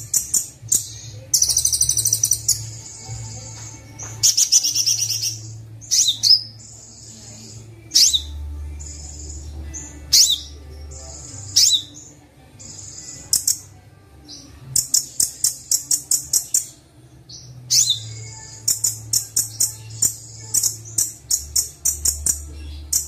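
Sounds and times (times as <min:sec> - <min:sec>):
songbird calls: 0:00.0 - 0:10.6, 0:11.2 - 0:13.6, 0:17.4 - 0:23.0
sunbird song: 0:00.0 - 0:23.0.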